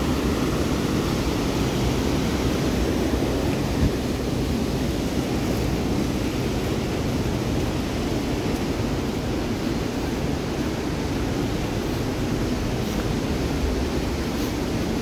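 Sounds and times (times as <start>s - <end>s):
rushing white water roar: 0.0s - 15.0s.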